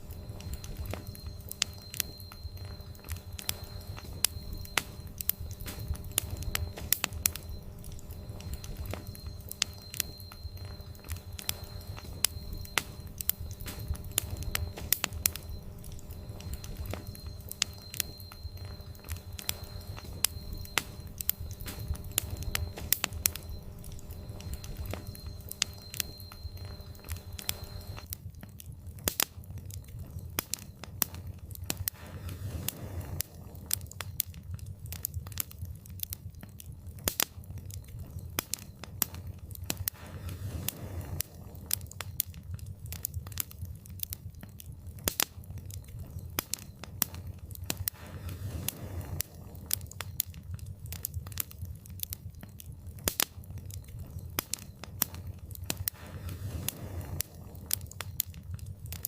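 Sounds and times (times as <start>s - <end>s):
fire crackling and popping: 0.0s - 59.0s
low rumble of flames: 0.0s - 59.0s.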